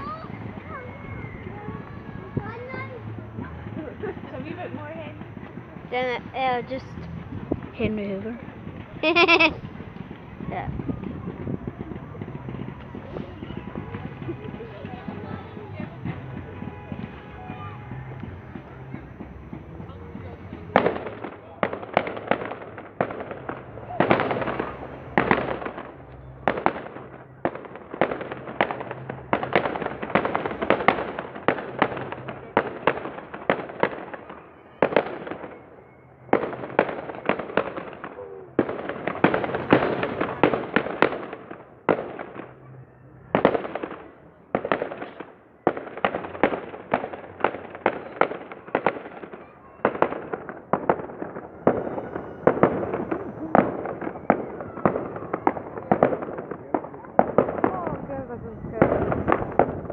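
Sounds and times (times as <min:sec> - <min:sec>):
fireworks bursting with bangs: 0:00.0 - 0:59.9
fireworks crackling: 0:00.0 - 0:59.9.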